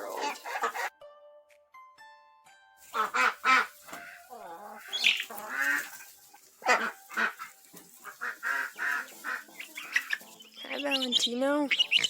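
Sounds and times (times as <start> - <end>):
ducks quacking: 0.0 - 0.9, 2.9 - 12.0
soft background music: 0.0 - 12.0.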